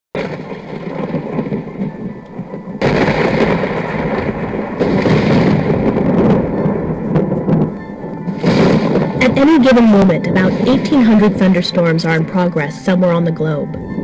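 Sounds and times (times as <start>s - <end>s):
thunder rumbling: 0.2s - 14.0s.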